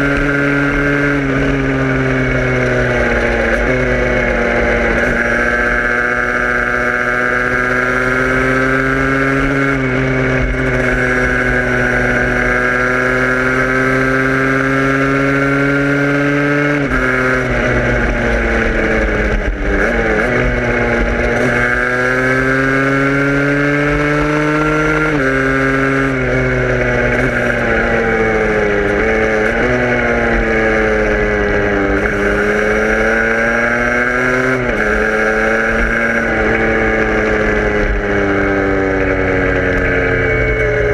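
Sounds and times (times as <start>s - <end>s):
vehicle engine shifting gears: 0.0s - 40.9s.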